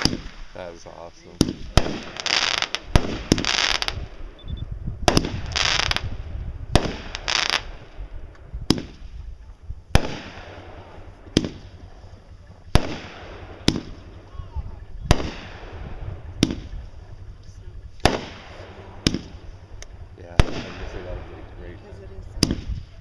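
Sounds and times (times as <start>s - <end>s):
fireworks bangs: 0.0s - 23.0s
fireworks hissing crackle: 0.0s - 23.0s.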